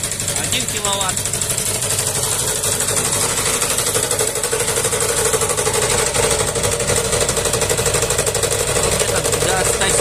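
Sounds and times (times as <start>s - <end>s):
small petrol engine running: 0.0s - 10.0s.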